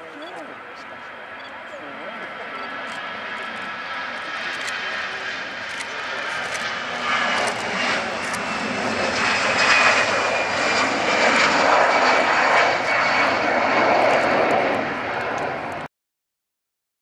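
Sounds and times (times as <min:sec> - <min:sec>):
jet engines at takeoff: 0:00.0 - 0:15.9.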